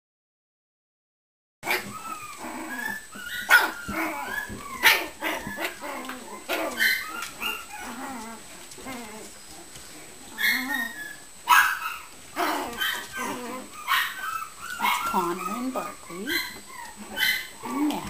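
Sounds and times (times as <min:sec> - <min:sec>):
puppies yipping and barking: 0:01.6 - 0:18.0.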